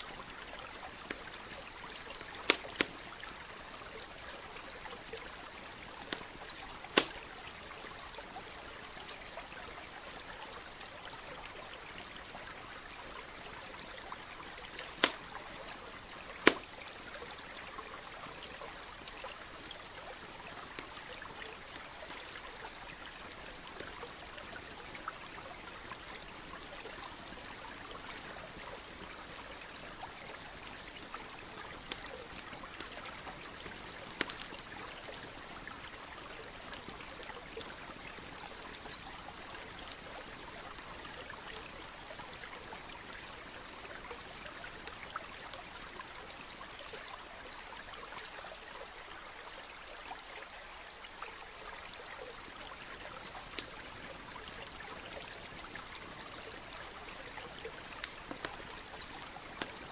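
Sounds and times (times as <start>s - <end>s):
campfire crackling and popping: 0.0s - 48.9s, 51.9s - 59.9s
stream trickling: 0.0s - 59.9s.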